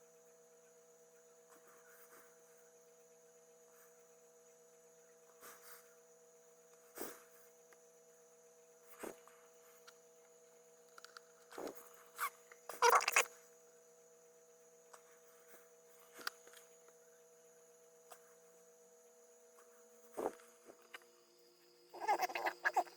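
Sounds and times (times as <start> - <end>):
faint electrical hum: 0.0 - 22.9.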